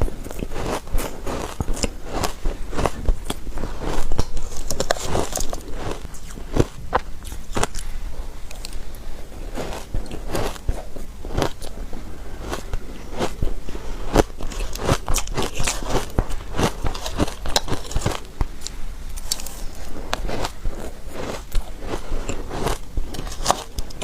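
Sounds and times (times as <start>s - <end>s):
chewing shaved ice crunches: 0.0s - 7.9s, 8.5s - 24.0s.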